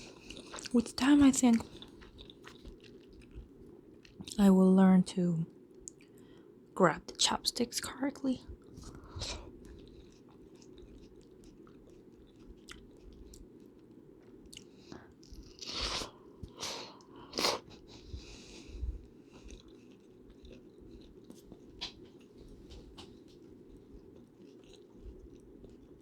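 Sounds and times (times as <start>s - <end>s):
chewing and biting food: 0.0s - 4.4s, 8.6s - 26.0s.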